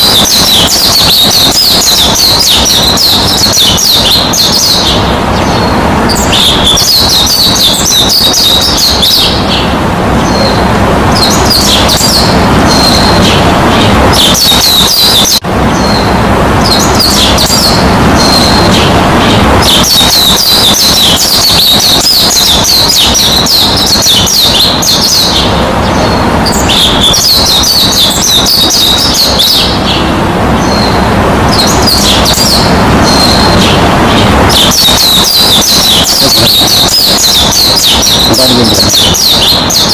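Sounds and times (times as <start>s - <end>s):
small birds chirping: 0.0s - 39.9s
steady rushing noise: 0.0s - 39.9s.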